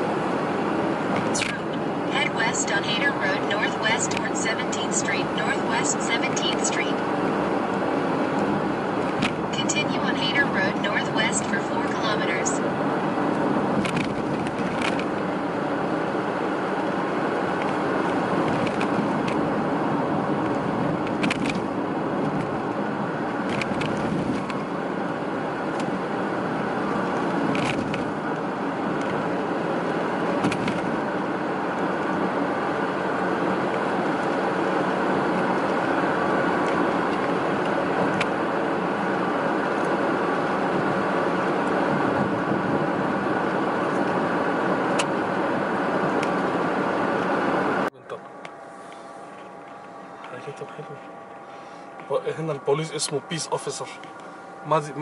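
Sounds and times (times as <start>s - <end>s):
road and tyre noise: 0.0s - 55.0s.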